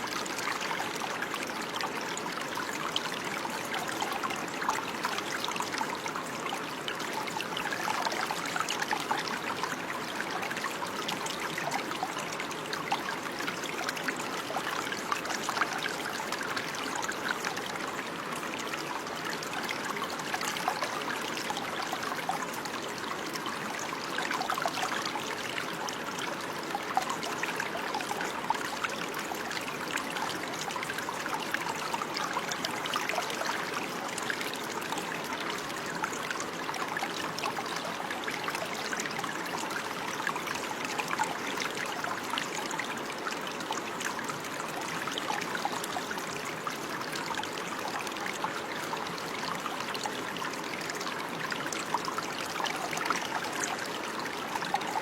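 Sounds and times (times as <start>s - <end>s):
stream trickling over stones: 0.0s - 55.0s.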